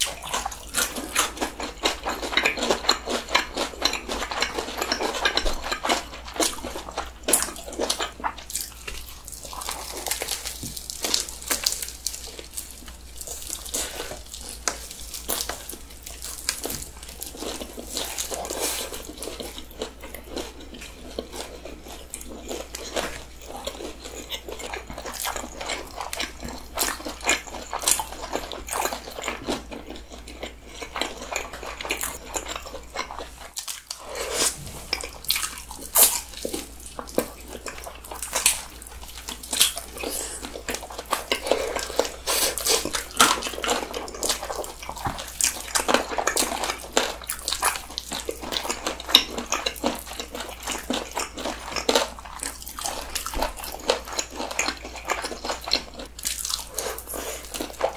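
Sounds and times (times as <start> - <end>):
people chewing fried chicken: 0.0 - 57.9.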